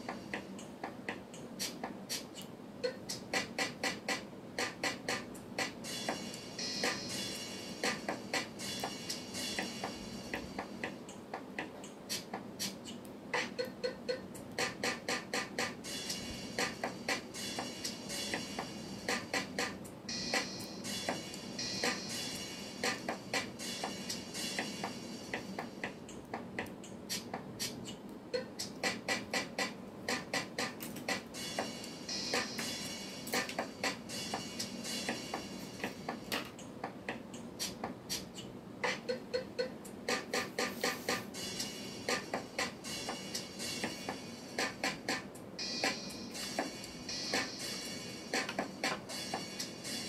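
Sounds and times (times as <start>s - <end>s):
music with clicking beat: 0.0s - 50.0s.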